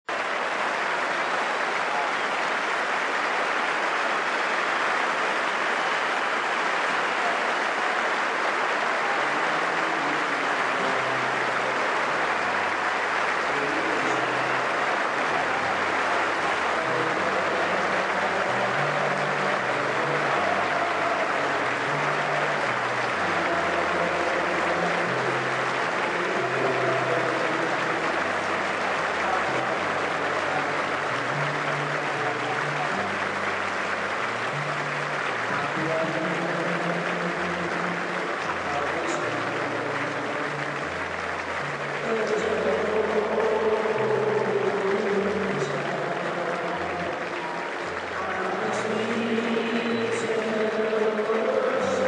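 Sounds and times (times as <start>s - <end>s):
crowd applauding: 0.0s - 52.0s.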